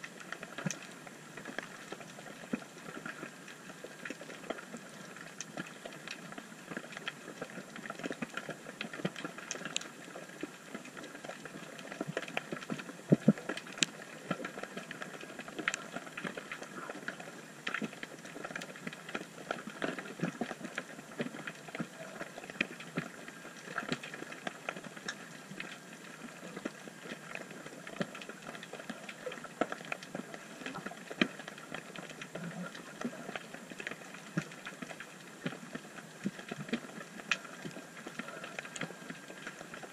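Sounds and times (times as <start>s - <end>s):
crackle of small sharp clicks: 0.0s - 39.9s.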